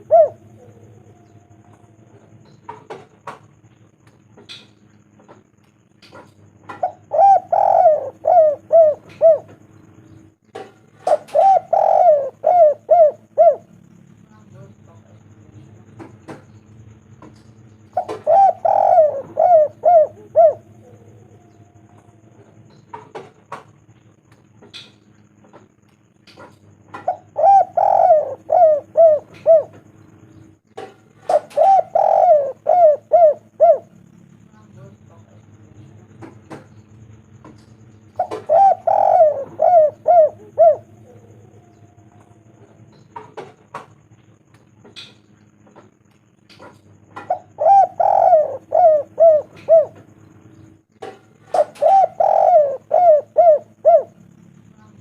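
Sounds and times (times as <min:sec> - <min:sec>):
dove cooing: 0:00.0 - 0:05.5, 0:06.1 - 0:25.8, 0:26.4 - 0:34.3, 0:35.2 - 0:46.0, 0:46.6 - 0:55.0.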